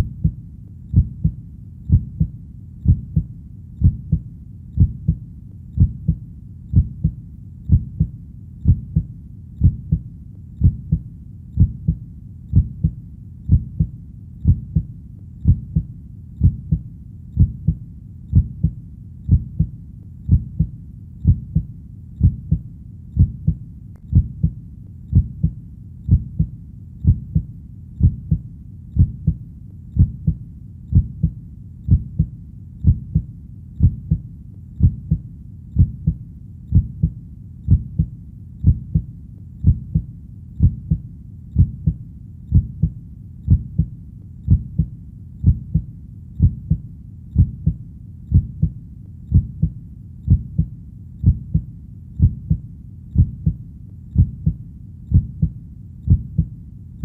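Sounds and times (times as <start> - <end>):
heartbeat thumps: 0.0 - 56.6.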